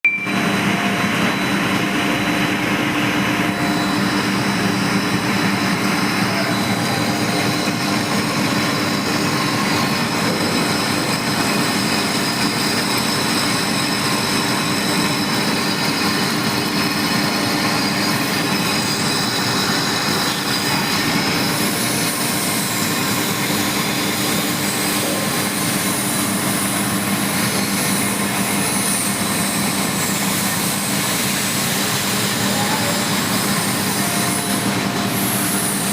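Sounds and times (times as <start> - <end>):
lathe hum and whine: 0.0 - 35.9.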